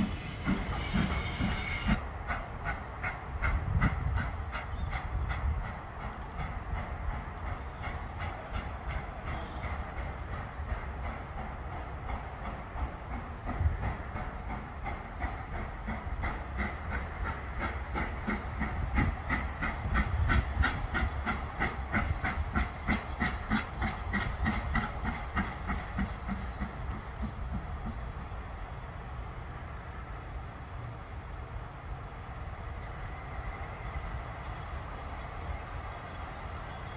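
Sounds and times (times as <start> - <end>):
steam hissing: 0.0 - 29.7
steam locomotive exhaust beating: 0.0 - 30.7.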